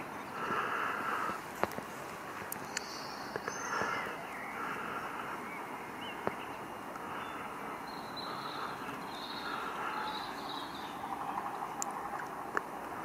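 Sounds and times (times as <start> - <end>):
faint bird calls: 0.0 - 13.0
outdoor background hush: 0.0 - 13.0.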